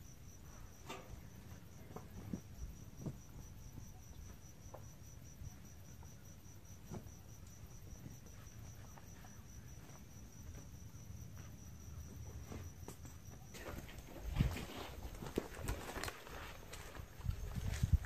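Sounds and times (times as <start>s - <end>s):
faint rustles and light knocks: 0.4s - 5.0s, 6.0s - 18.0s.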